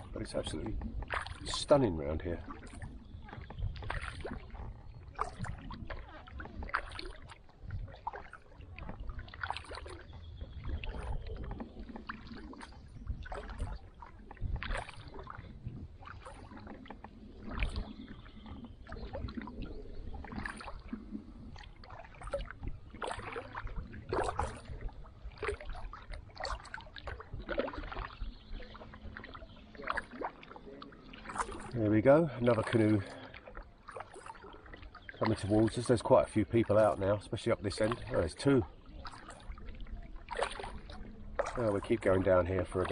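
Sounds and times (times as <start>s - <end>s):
paddle splashing in water: 0.0s - 42.9s.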